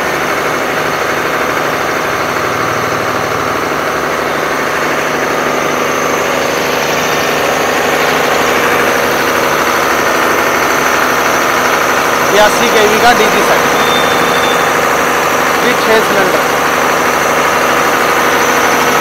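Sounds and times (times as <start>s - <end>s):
diesel generator running: 0.0s - 19.0s.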